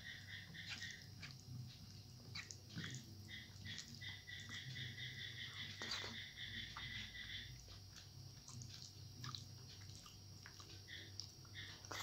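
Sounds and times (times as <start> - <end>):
rhythmic high chirping: 0.0 - 12.0
soft chewing: 0.1 - 12.0.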